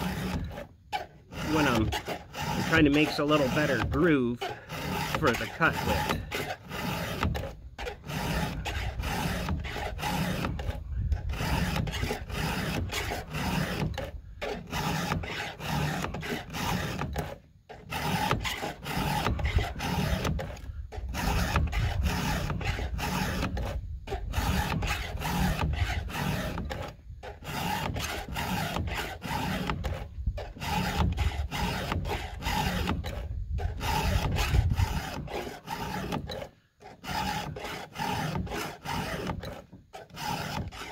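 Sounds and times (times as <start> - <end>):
file rasping on chainsaw chain: 0.0 - 40.9.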